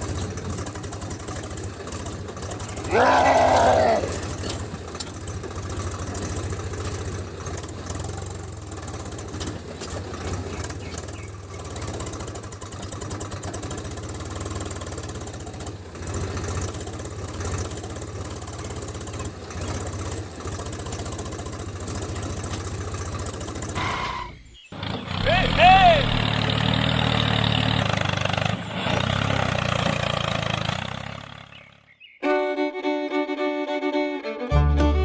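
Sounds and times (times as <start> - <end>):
small engine idling: 0.0 - 35.0.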